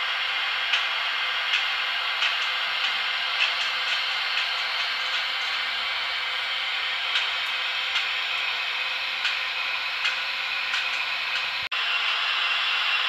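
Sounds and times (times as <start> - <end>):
electric locomotive hissing through speakers: 0.0 - 13.0.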